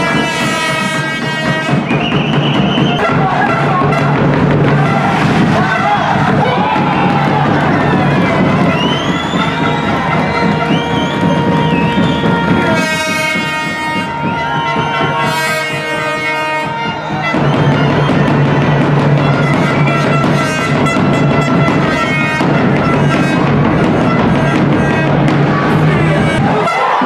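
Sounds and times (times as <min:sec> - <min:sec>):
music with drums over loudspeakers: 0:00.0 - 0:26.7.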